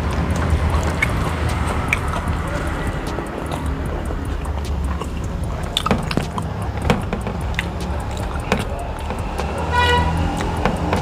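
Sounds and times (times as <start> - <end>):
steady low hum: 0.0 - 11.0
wet chewing and lip smacking: 0.0 - 11.0.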